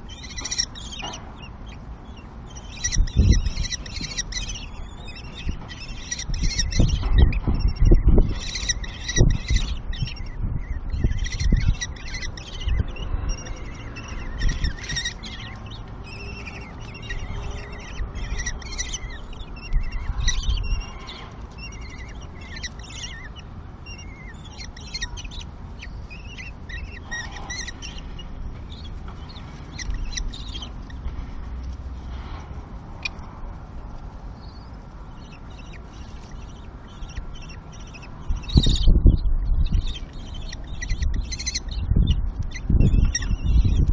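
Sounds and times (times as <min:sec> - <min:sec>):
kestrels calling: 0:00.0 - 0:43.9.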